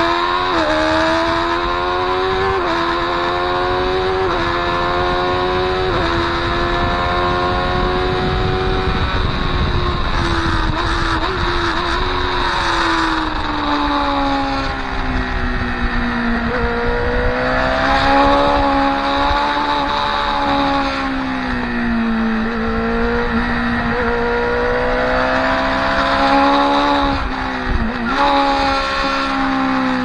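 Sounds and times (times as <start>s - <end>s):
motorcycle engine running hard: 0.0s - 30.0s.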